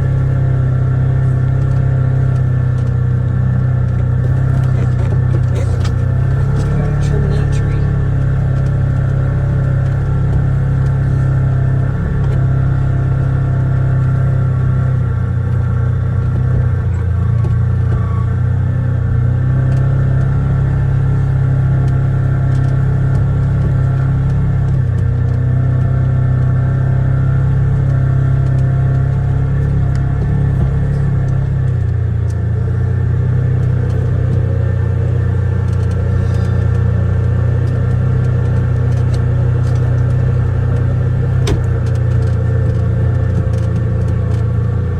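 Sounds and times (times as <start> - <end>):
utility vehicle engine droning: 0.0 - 44.9.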